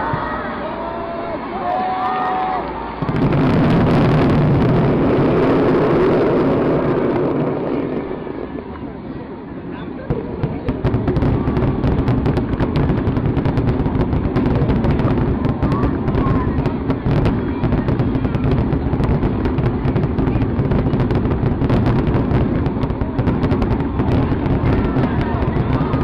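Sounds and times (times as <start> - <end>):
fireworks bursting and crackling: 2.9 - 26.0
low rumble: 3.0 - 26.0.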